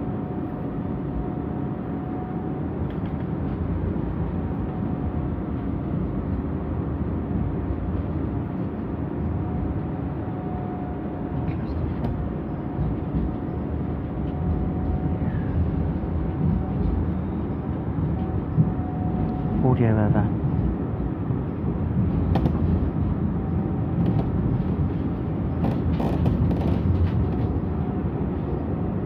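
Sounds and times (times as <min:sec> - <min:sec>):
tram wheels rumbling on track: 0:00.0 - 0:29.0.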